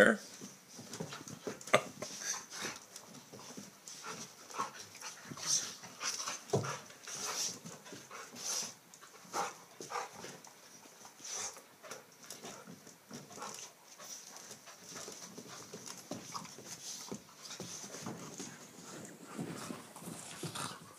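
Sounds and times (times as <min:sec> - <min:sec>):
dogs wrestling noises: 0:00.2 - 0:20.9
dogs panting: 0:00.3 - 0:20.9.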